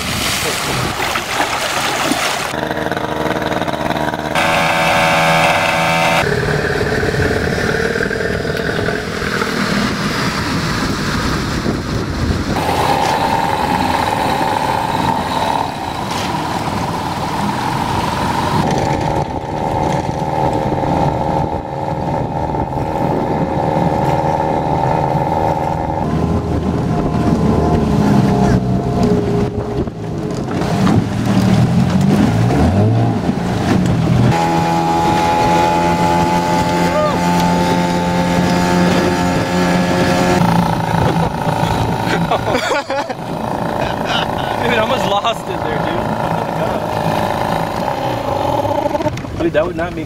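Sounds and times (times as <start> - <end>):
outboard motor running: 0.7 - 50.0.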